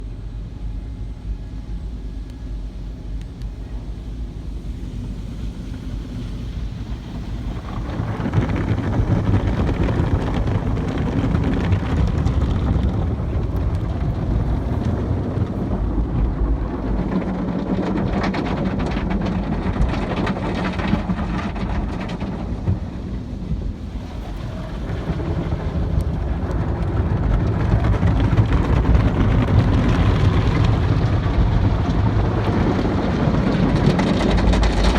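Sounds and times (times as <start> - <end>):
low rumble: 0.0 - 34.9
car wash rushing noise: 2.6 - 34.9.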